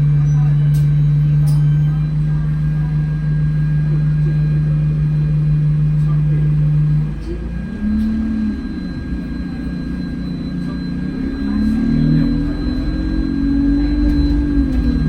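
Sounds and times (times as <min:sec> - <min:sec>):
loud steady low hum: 0:00.0 - 0:15.0
wavering low bus engine note: 0:00.0 - 0:15.0.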